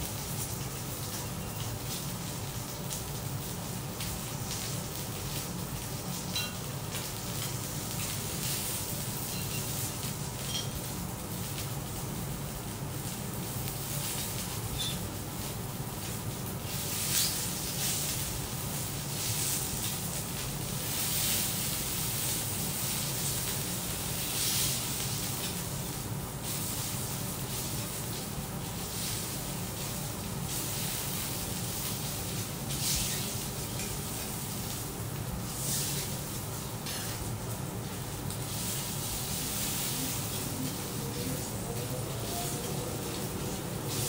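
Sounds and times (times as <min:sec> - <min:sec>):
steak sizzling on a griddle: 0:00.0 - 0:44.0.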